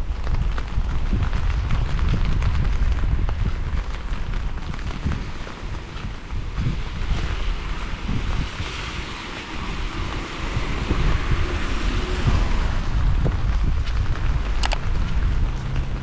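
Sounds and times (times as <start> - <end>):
steady rain falling: 0.0 - 16.0
wind buffeting microphone: 0.0 - 16.0.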